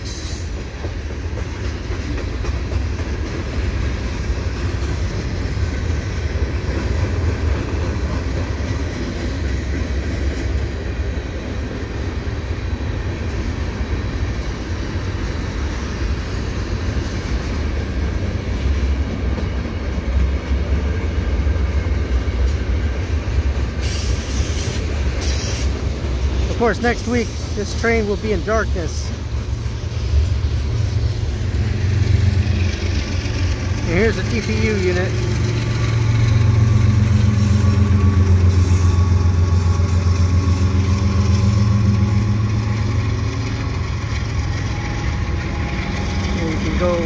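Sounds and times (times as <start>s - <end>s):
freight train cars rolling: 0.0s - 47.0s.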